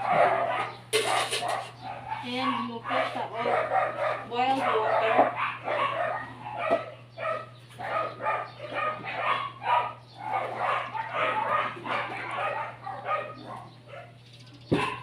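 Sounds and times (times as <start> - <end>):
dog barking: 0.0 - 15.0
steady low hum: 0.0 - 15.0.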